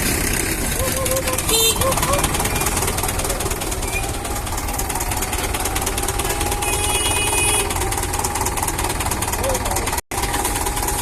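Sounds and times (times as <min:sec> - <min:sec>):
diesel engine knocking clatter: 0:00.0 - 0:11.0.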